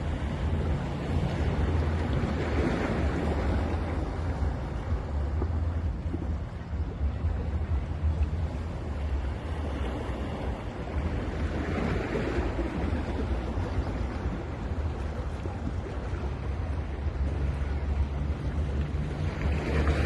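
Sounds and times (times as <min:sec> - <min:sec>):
ocean waves washing onto beach: 0:00.0 - 0:20.0
wind on microphone: 0:00.0 - 0:20.0.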